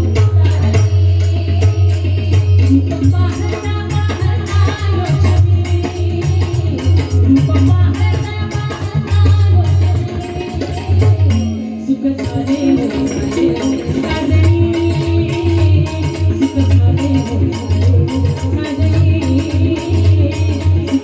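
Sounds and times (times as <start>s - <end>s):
harmonium-like held notes: 0.0s - 21.0s
pakhawaj drumming with deep bass: 0.0s - 21.0s.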